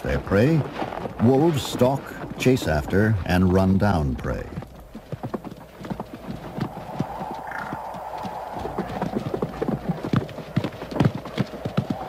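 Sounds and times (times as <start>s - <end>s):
hooves and paws thudding on turf: 0.0s - 12.0s.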